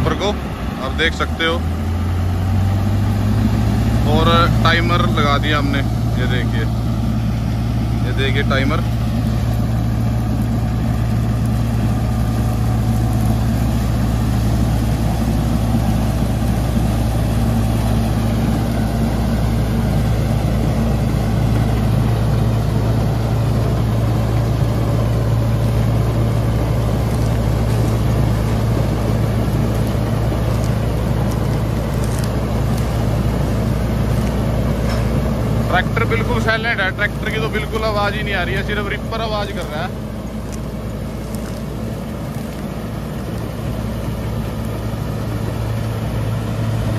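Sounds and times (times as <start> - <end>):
straw reaper mechanical drone: 0.0 - 46.9.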